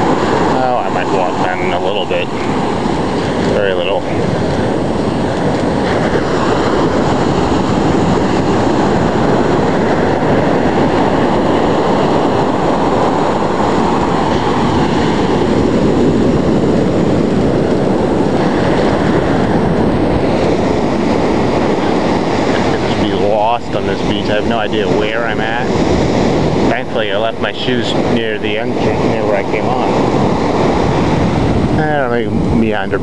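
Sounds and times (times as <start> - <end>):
ocean surf breaking: 0.0 - 33.0
wind on microphone: 0.0 - 33.0.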